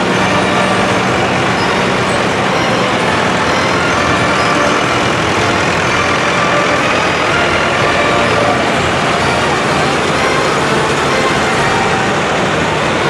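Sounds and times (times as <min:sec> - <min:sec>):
tractor engines driving past: 0:00.0 - 0:13.0.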